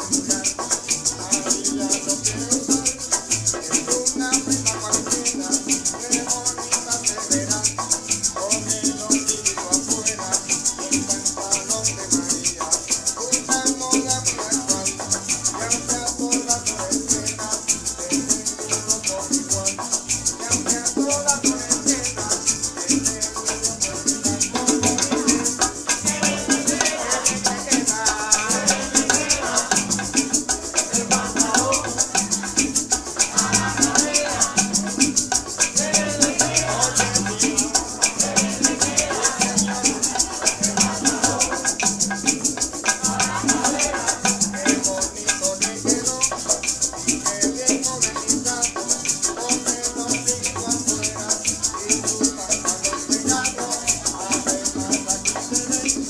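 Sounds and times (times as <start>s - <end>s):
bass line: 0.0s - 41.8s, 43.0s - 49.0s
maracas shaking: 0.0s - 56.0s.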